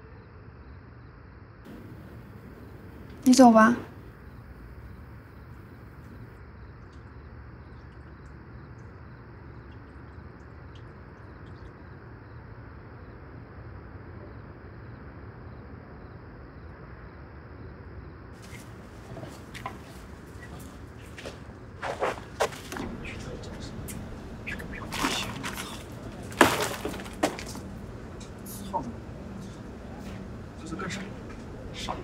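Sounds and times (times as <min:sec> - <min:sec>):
low hum and hiss: 0:01.7 - 0:32.0.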